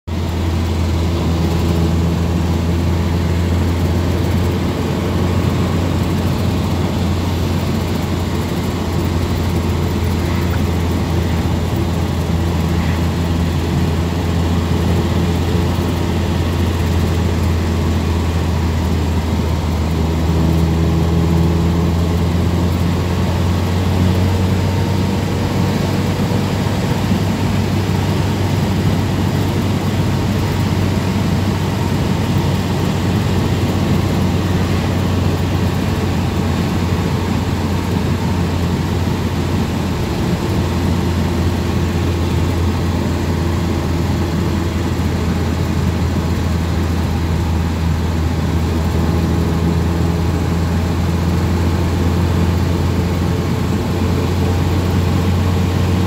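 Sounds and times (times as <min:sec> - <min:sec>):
car engine drone: 0:00.0 - 0:56.0
road and wind noise: 0:00.1 - 0:56.0.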